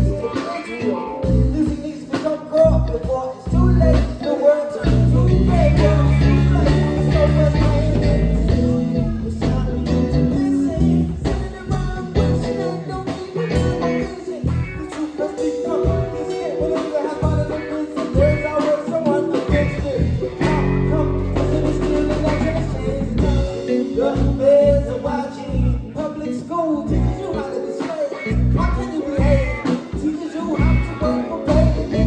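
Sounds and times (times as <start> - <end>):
live band music: 0.0 - 32.0.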